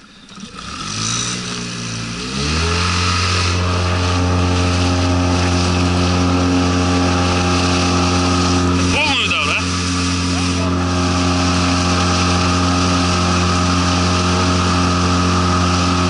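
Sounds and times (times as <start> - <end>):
outboard motor throttling up: 0.0 - 16.0.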